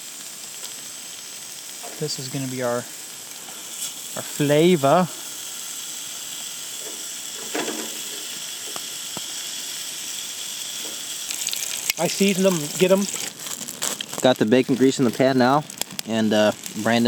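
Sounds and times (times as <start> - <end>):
bacon sizzling in a pan: 0.0 - 17.0.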